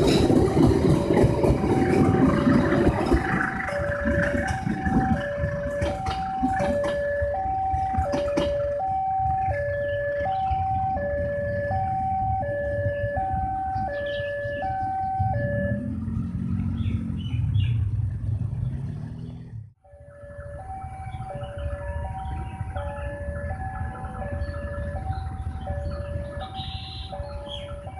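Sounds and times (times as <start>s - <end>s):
two-tone crossing alarm: 0.0s - 15.9s, 19.8s - 27.9s
deep engine rumble: 0.0s - 27.9s.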